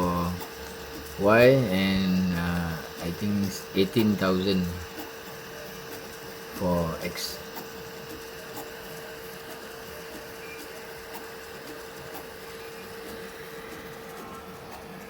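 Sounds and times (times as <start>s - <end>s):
printer humming: 0.0s - 15.0s.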